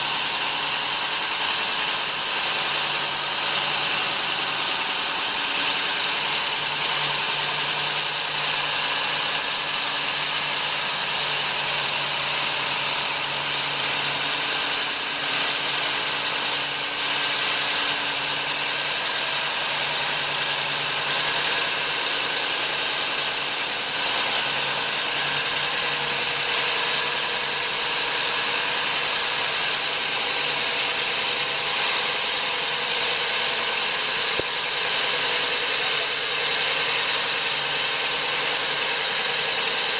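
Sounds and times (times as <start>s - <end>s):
core drill motor whining: 0.0s - 39.9s.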